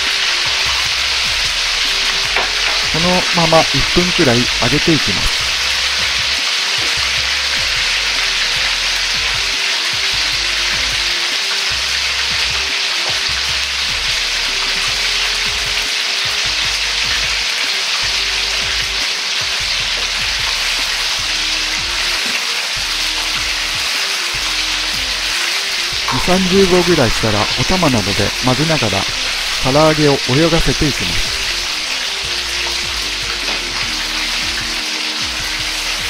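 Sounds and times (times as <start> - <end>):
food deep-frying in oil: 0.0 - 36.0.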